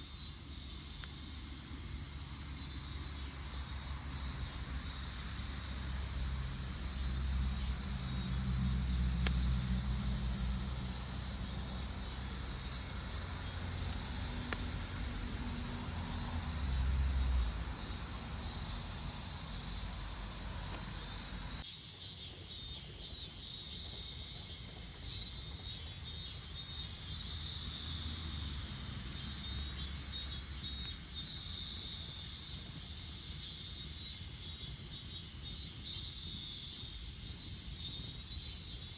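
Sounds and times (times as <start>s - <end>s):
insects shrilling: 0.0s - 21.7s, 22.8s - 38.9s.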